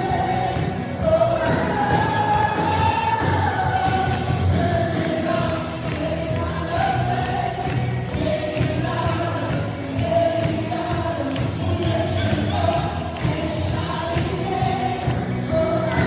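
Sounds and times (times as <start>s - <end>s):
choir singing gospel music: 0.0s - 16.0s.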